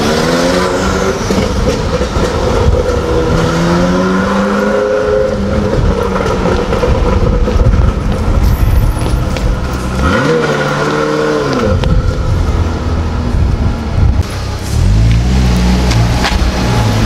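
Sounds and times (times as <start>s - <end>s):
sports car engine pulling away: 0.0s - 17.0s.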